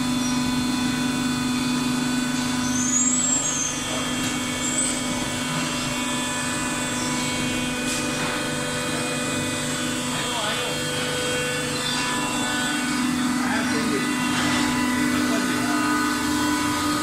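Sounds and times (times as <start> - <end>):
baler machine hum: 0.0 - 17.0.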